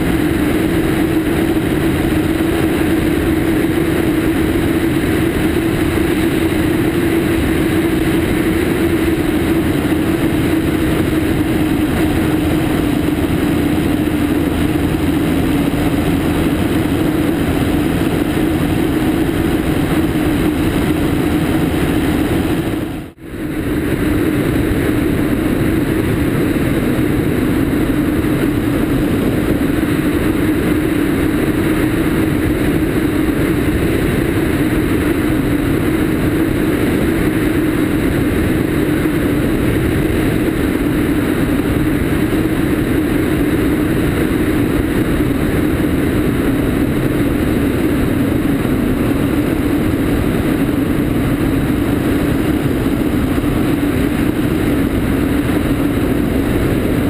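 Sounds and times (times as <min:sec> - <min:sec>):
air rushing past microphone: 0:00.0 - 0:57.0
airplane engine and propeller: 0:00.0 - 0:57.0.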